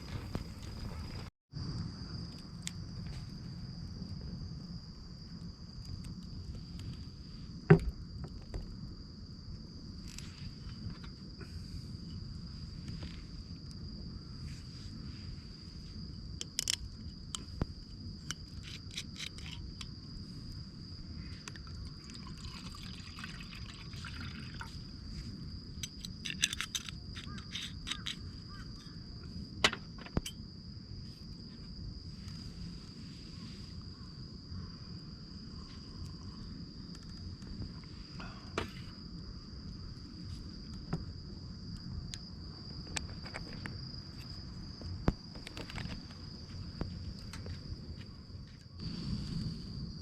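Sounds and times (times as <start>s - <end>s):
cricket trilling: 0.0s - 50.0s.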